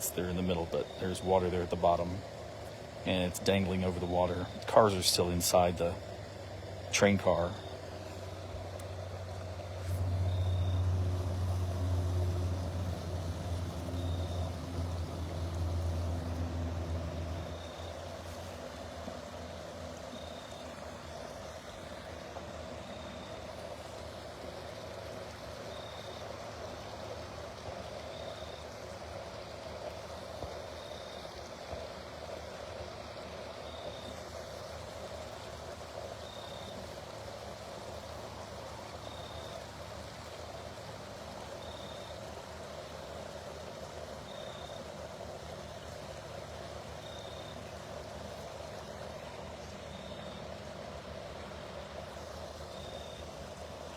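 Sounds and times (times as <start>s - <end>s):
even low hum: 0.0s - 53.9s.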